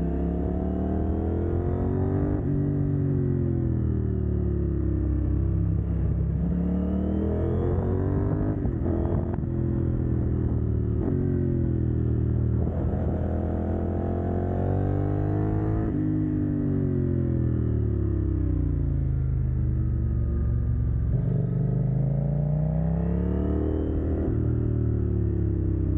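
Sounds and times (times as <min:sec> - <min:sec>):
motorcycle engine accelerating hard: 0:00.0 - 0:25.9.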